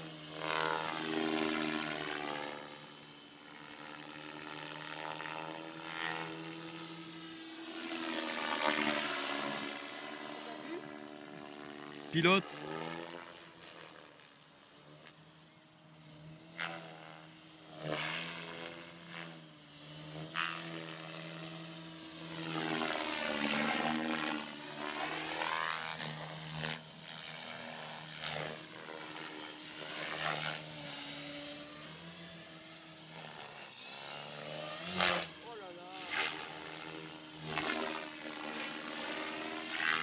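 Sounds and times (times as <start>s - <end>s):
rc helicopter rotor hum: 0.0s - 40.0s.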